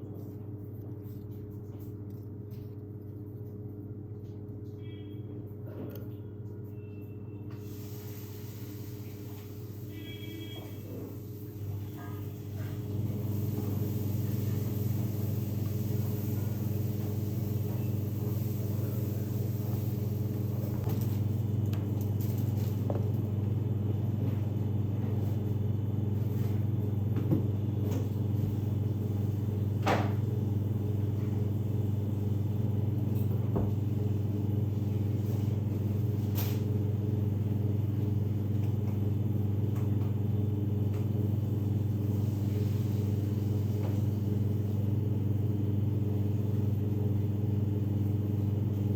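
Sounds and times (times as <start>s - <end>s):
low machine hum: 0.0s - 48.9s.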